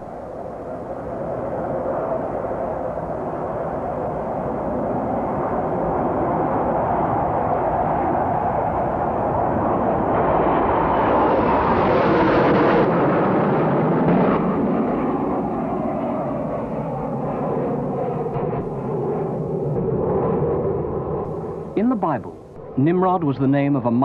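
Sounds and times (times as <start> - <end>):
loud jet engine noise: 0.0 - 24.0.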